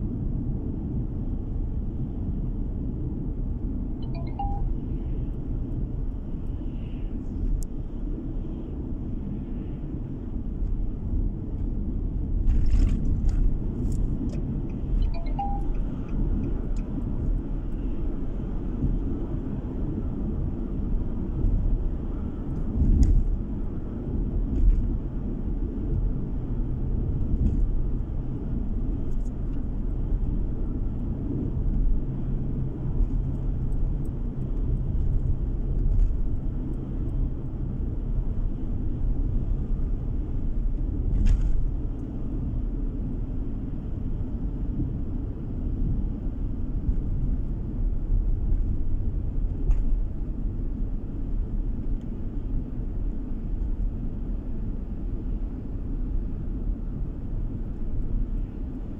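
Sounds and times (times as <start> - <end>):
car road and engine noise: 0.0 - 58.9.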